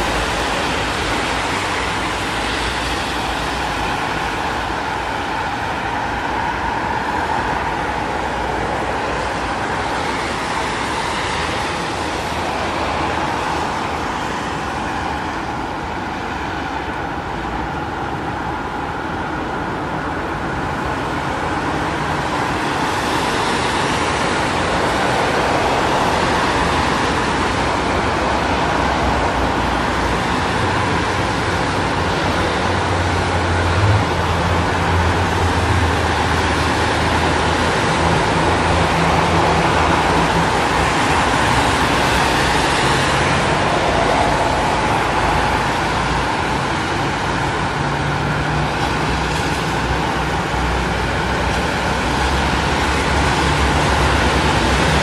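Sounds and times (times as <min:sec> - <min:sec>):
city road traffic: 0:00.0 - 0:55.0
heavy vehicle rumble: 0:00.0 - 0:55.0.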